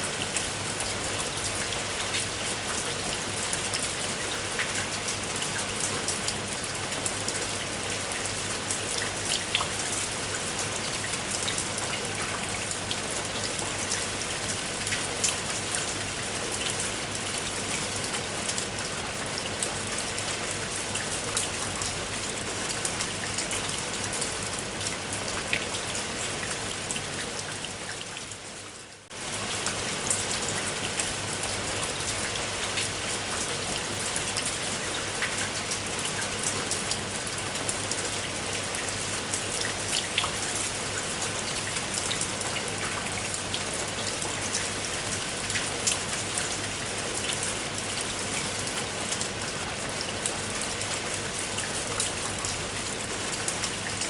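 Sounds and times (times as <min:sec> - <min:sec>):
steady rain with drops ticking: 0:00.0 - 0:54.0.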